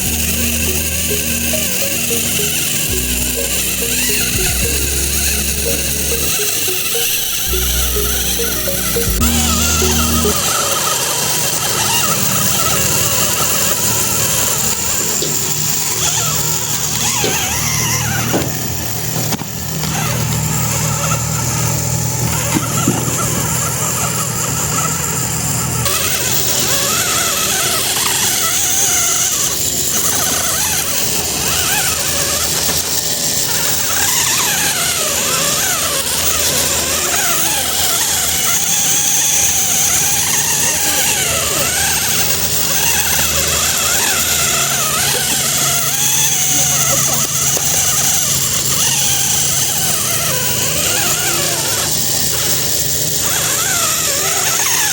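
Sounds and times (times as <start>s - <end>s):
toy tractor electric motor whine: 0.0s - 54.9s.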